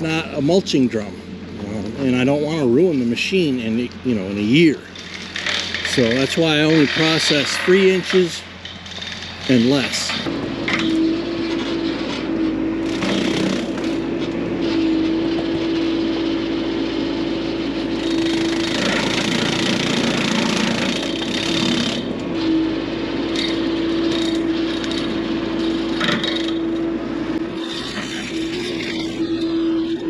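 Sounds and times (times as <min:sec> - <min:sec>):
brush cutter whining: 0:00.0 - 0:30.0.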